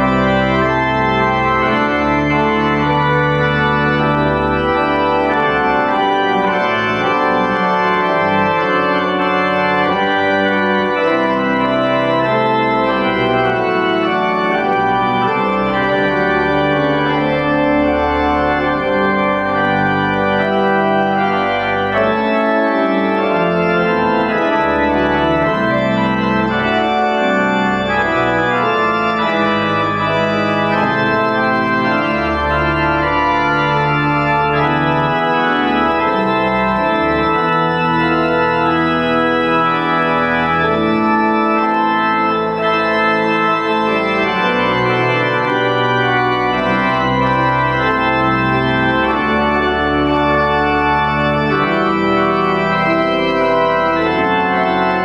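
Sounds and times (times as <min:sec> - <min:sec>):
church pipe organ playing: 0:00.0 - 0:55.0.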